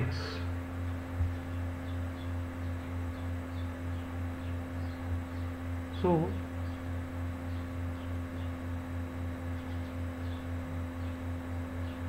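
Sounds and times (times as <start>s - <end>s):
pulsing electrical hum: 0.0s - 12.0s.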